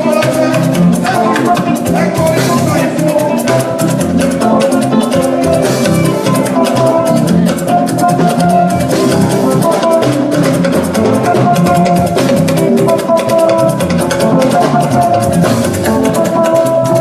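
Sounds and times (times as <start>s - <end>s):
band dance music: 0.0s - 17.0s.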